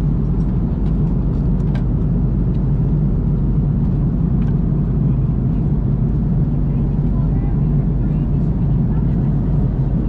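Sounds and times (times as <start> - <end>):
airplane cabin engine drone: 0.0 - 10.0.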